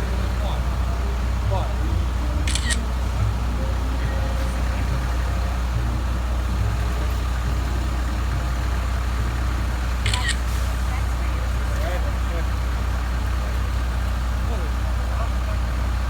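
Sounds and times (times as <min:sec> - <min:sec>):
fire truck engine idling: 0:00.0 - 0:16.0.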